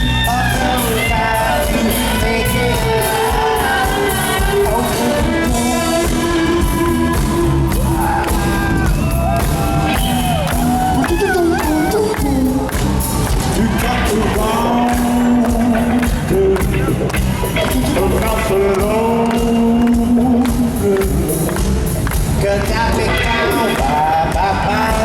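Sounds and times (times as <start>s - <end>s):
person singing lead vocal: 0.0s - 25.0s
rock band playing live: 0.0s - 25.0s.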